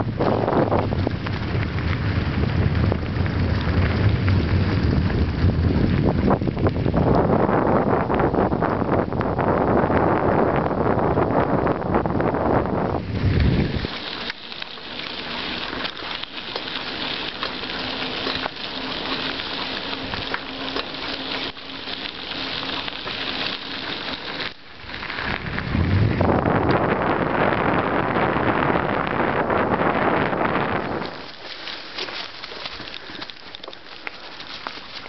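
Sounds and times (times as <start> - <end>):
wind buffeting microphone: 0.0 - 14.3, 15.5 - 35.0
bicycle tyres hissing on road: 0.0 - 35.0.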